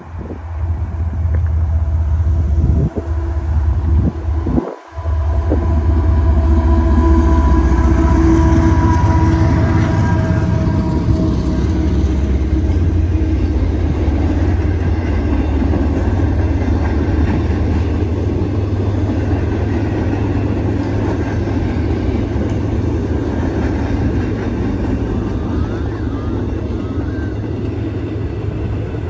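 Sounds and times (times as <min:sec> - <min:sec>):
train wheels on rails: 0:00.0 - 0:29.0.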